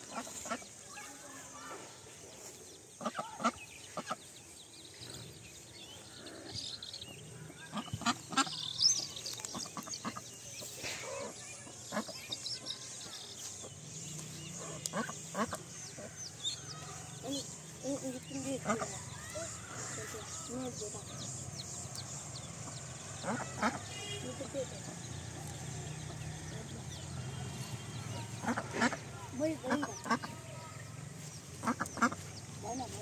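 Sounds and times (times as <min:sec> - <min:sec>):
ducks quacking: 0:00.0 - 0:01.8, 0:02.8 - 0:04.4, 0:07.4 - 0:25.4, 0:26.0 - 0:33.0
ducklings peeping: 0:00.0 - 0:33.0.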